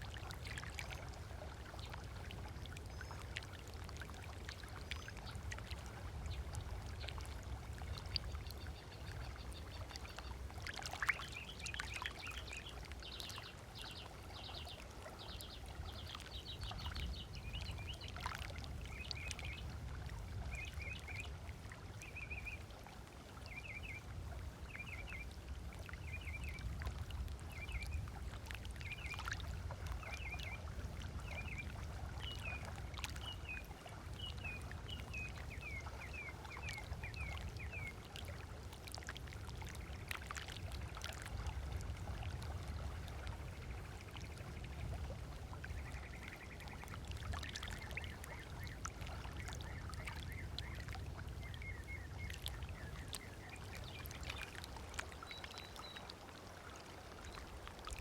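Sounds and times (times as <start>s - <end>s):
waves lapping on sandy shore: 0.0s - 58.0s.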